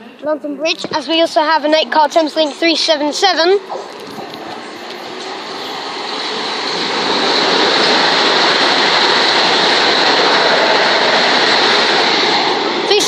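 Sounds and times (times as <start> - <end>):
train wheels rumbling on rails: 0.2 - 13.0.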